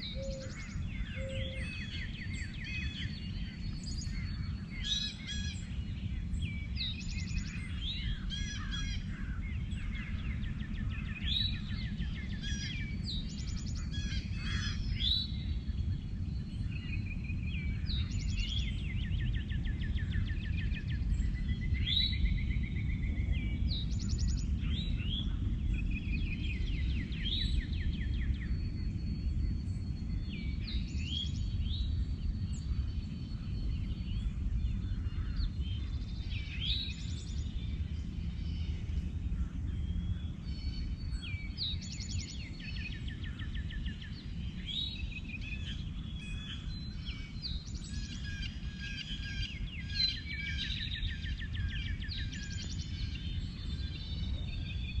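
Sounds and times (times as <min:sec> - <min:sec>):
songbirds singing trills: 0:00.0 - 0:55.0
steady low rumble: 0:00.0 - 0:55.0.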